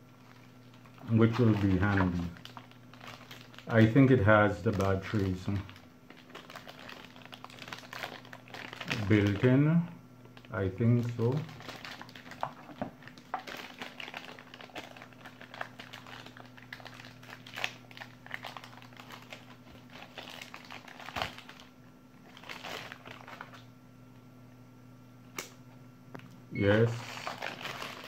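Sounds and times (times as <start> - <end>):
plastic bag crinkling: 0.2 - 9.6, 10.2 - 23.6, 27.0 - 28.0.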